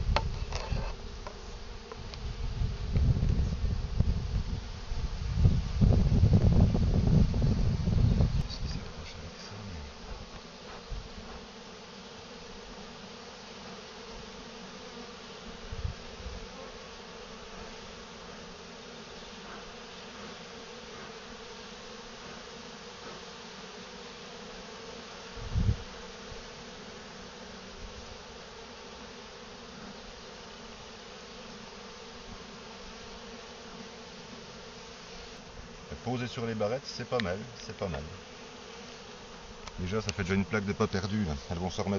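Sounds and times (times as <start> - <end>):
bees buzzing: 0.0 - 41.9.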